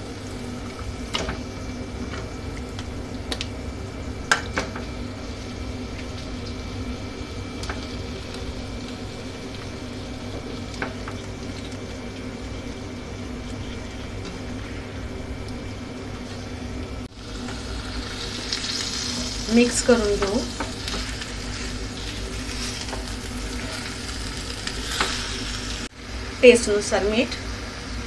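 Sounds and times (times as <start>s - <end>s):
chicken sizzling in a pan: 0.0s - 15.2s, 16.2s - 28.0s
steady low hum: 0.0s - 28.0s.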